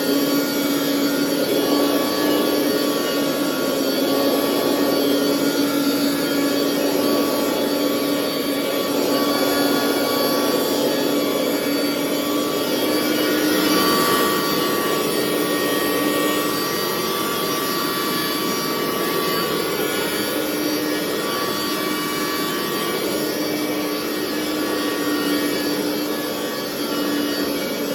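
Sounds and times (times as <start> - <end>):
carpet cleaner suction motor: 0.0 - 27.9.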